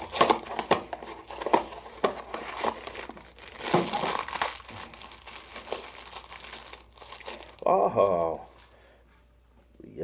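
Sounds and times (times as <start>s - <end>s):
cardboard and plastic crinkling: 0.0s - 8.1s.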